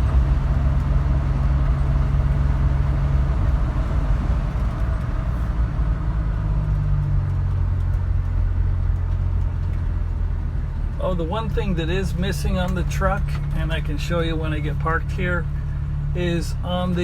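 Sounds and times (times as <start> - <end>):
pickup engine running: 0.0 - 17.0
road and tyre noise: 0.0 - 17.0.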